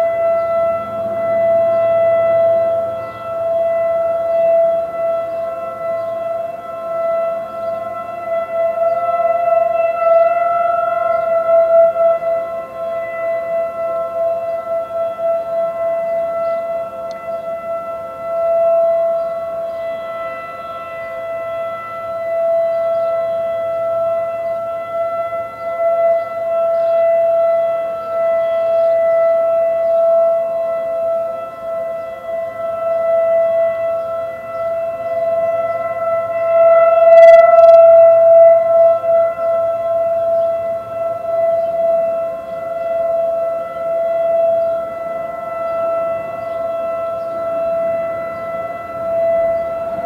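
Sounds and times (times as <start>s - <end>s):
warning sirens wailing: 0.0s - 50.0s.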